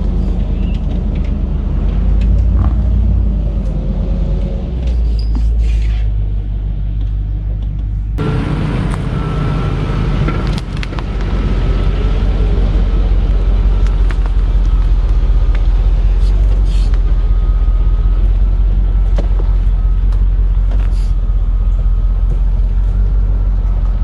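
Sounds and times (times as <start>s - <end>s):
vehicle engine rumbling under load: 0.0s - 24.0s.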